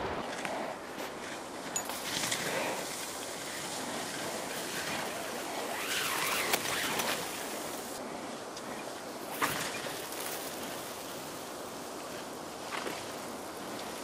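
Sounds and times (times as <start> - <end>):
wind rushing over microphone: 0.0 - 12.6.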